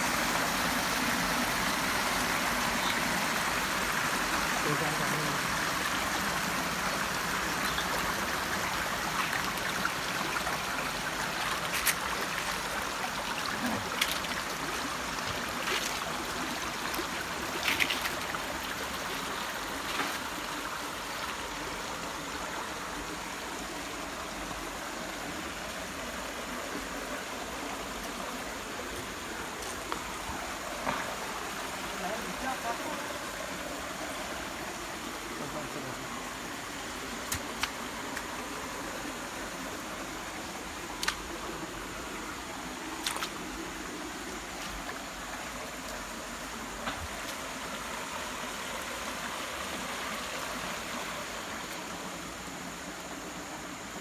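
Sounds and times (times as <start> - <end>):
stream splashing over stones: 0.0 - 54.0.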